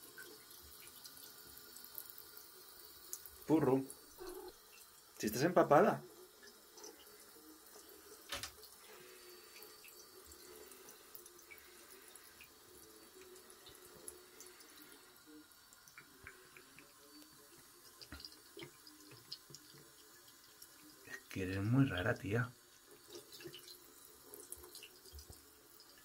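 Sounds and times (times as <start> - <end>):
thin stream of tap water: 0.0 - 26.0.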